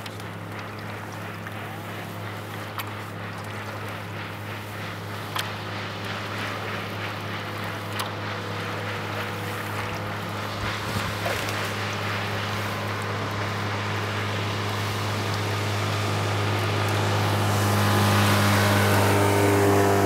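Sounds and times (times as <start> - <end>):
paddle strokes splashing water: 0.0 - 20.0
steady low hum: 0.0 - 20.0.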